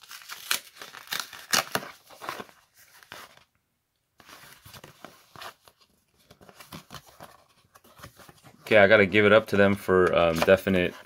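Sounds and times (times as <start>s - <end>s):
cardboard package rustling: 0.0s - 3.5s, 4.2s - 11.0s.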